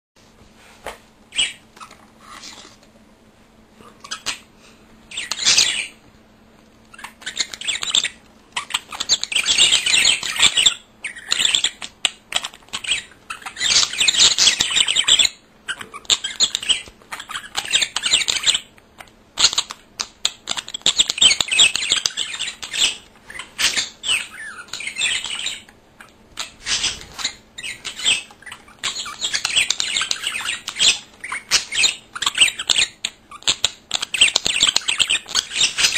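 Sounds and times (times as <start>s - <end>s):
budgerigars chirping: 1.3s - 2.7s, 4.0s - 4.5s, 5.1s - 6.0s, 6.9s - 35.9s.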